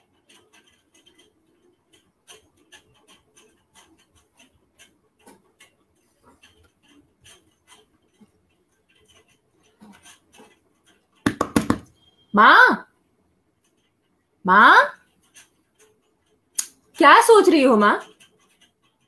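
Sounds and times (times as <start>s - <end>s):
faint small clicks and ticks: 0.0s - 11.3s, 12.9s - 14.4s, 15.0s - 19.0s.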